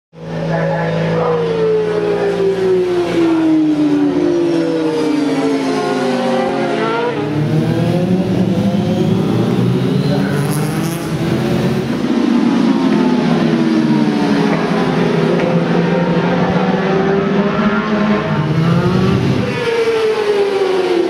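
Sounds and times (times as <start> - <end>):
low full engine note: 0.2 - 19.8
racing motorcycles passing: 0.2 - 21.0.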